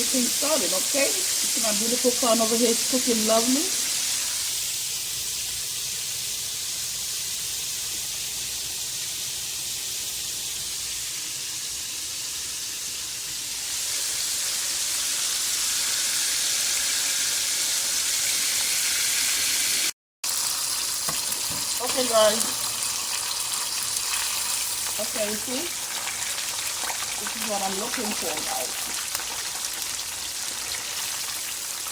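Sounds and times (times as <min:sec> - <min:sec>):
food frying in hot oil: 0:00.0 - 0:31.9.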